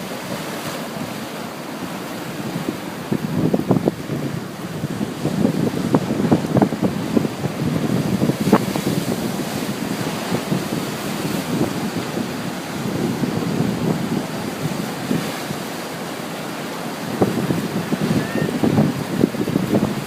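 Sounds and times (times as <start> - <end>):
ocean surf washing onto beach: 0.0 - 20.0
wind buffeting microphone: 1.9 - 20.0.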